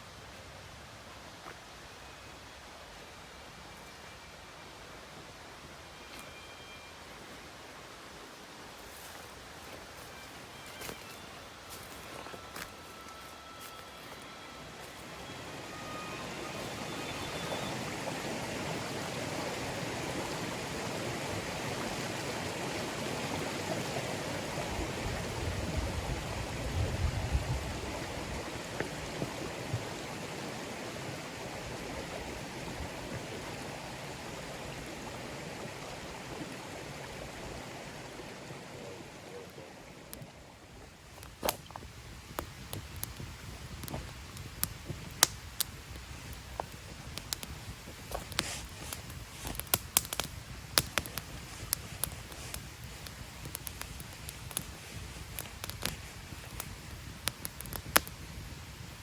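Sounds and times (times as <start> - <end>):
stream water flowing: 0.0 - 58.2.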